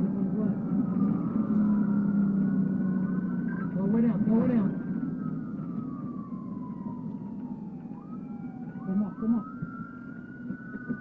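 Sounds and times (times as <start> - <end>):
police siren wailing: 0.0 - 11.0
road rumble: 0.0 - 11.0.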